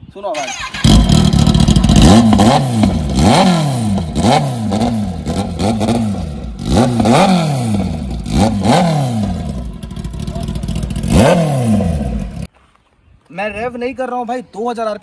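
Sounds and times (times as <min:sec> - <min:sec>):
motorcycle engine revving: 0:00.4 - 0:12.5.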